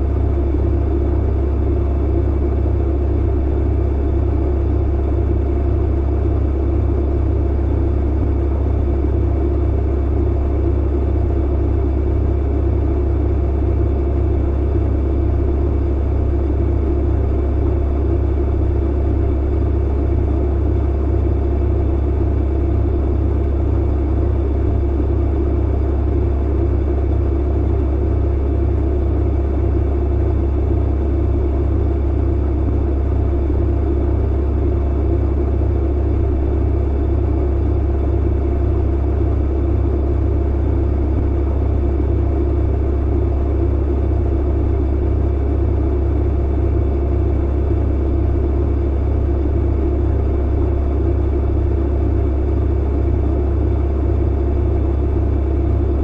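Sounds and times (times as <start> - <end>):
tumble dryer humming: 0.0 - 56.0.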